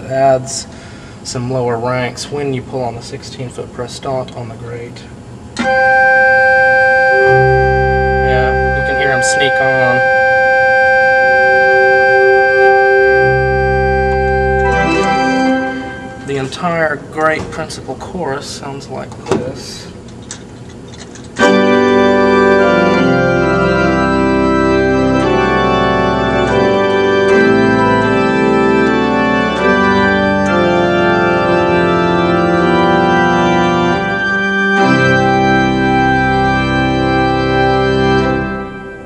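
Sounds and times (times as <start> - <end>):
pipe organ playing loud chords: 5.2 - 18.9, 21.0 - 39.0.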